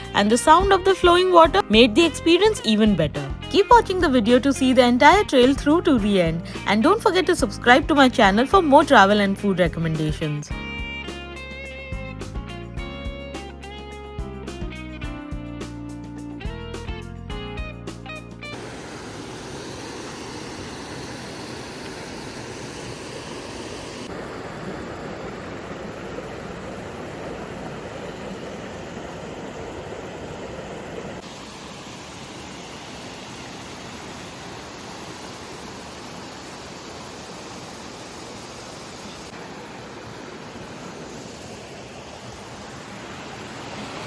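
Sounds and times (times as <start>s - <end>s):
waterfall and stream flowing: 0.0s - 10.5s, 18.5s - 44.0s.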